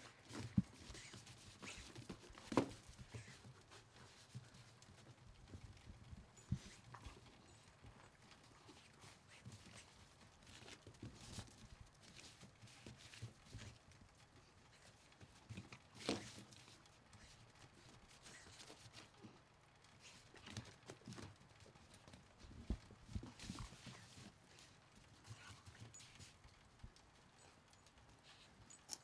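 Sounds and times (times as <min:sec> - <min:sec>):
dog paws on snowy wooden deck: 0:00.0 - 0:29.0.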